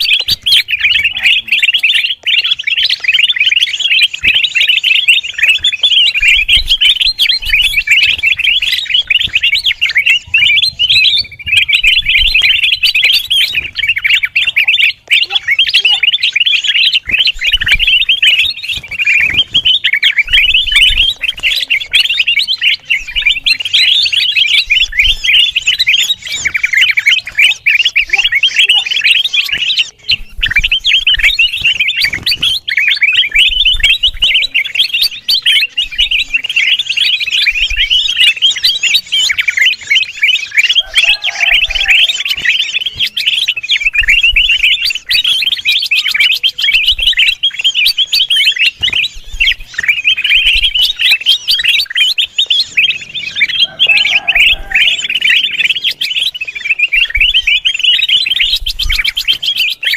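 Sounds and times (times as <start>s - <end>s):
bird chattering with rapid chirps: 0.0s - 59.9s.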